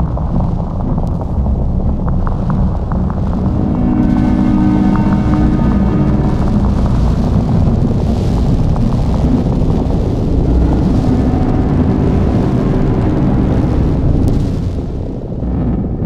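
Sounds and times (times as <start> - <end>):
low rumbling synth drone: 0.0 - 16.0.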